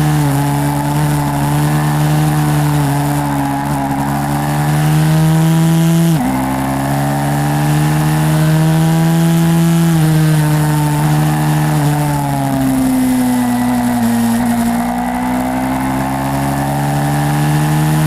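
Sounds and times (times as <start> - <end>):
small motorcycle engine revving: 0.0 - 18.0.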